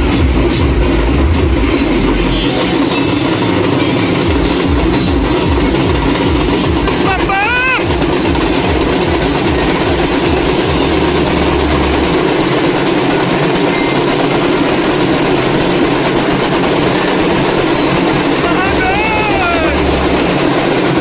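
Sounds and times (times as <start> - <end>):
drums beaten rapidly: 0.0 - 21.0
low hum: 0.0 - 21.0
street crowd din: 0.0 - 21.0.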